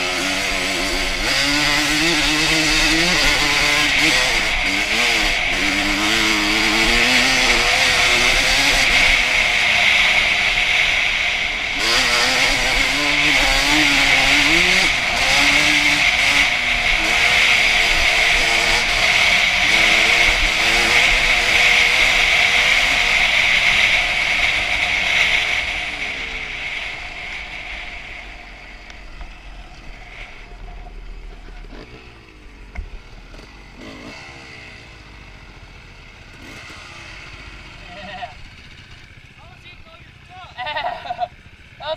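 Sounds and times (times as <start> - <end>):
two-stroke motorcycle engine revving: 0.0 - 41.9.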